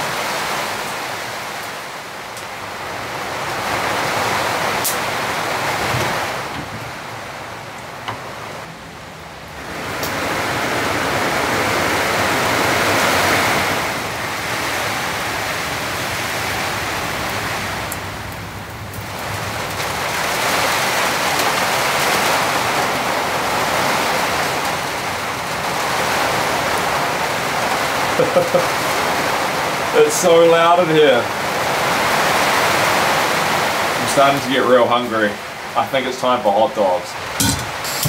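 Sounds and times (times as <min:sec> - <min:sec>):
heavy rain drumming on roof: 0:00.0 - 0:38.0.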